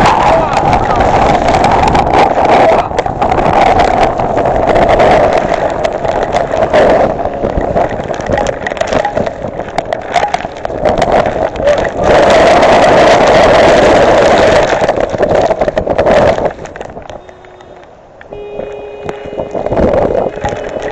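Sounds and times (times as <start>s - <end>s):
patters of raindrops: 0.0s - 20.9s
rain and wind rushing: 0.0s - 20.9s.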